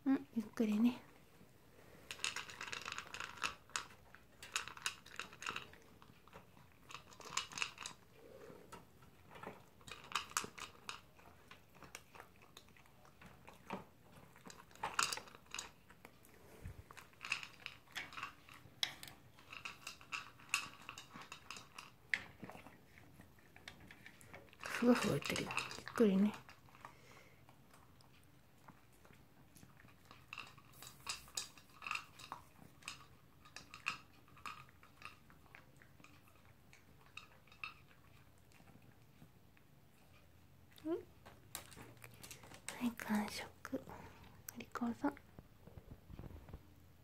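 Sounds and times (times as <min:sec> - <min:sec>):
dog crunching food: 0:02.0 - 0:46.6.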